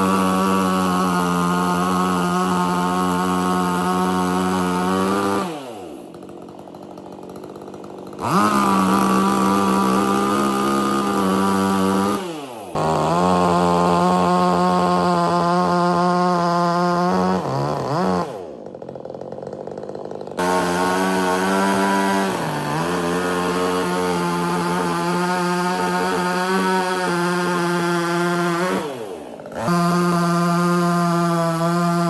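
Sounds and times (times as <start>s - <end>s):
chainsaw revving and idling: 0.0s - 32.0s.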